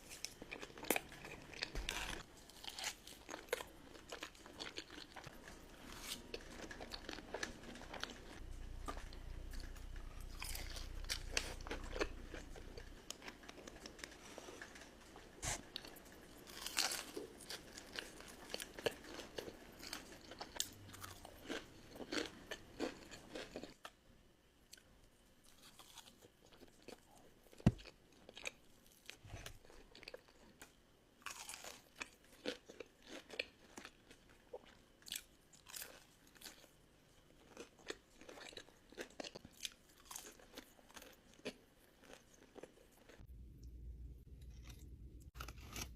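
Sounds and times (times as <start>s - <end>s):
crunchy chewing of crispy food: 0.0s - 24.0s, 24.7s - 43.3s, 44.4s - 45.9s.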